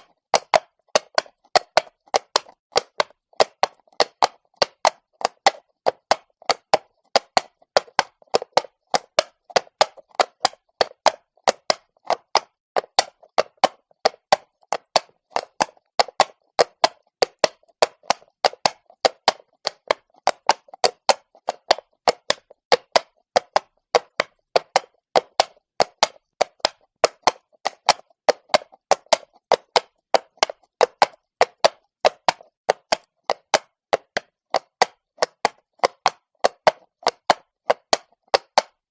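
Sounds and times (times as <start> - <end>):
horse hooves on cobblestones: 0.0 - 38.9.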